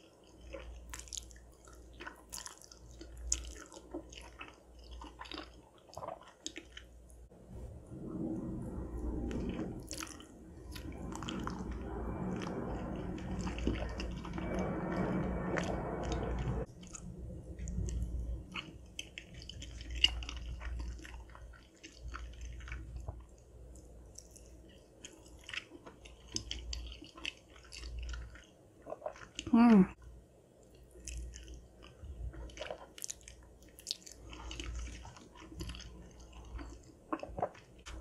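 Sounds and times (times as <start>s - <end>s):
wet squishy chewing: 0.0s - 7.2s, 9.3s - 29.6s, 30.6s - 38.0s.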